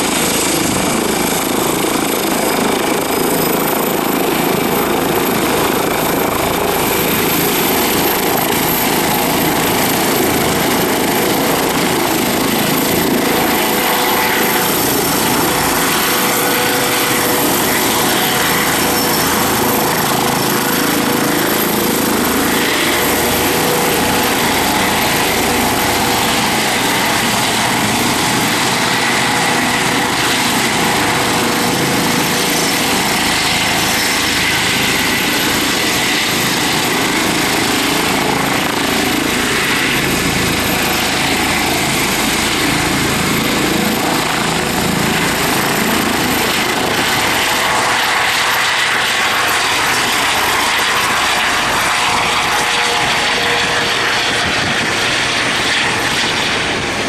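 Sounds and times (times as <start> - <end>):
helicopter running with whine: 0.0 - 57.0.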